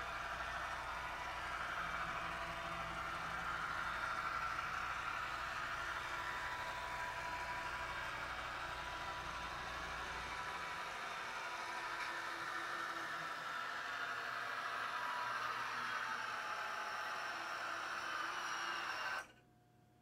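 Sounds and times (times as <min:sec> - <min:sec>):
model train diesel engine sound: 0:00.0 - 0:19.4
model train motor whirring: 0:00.0 - 0:19.4.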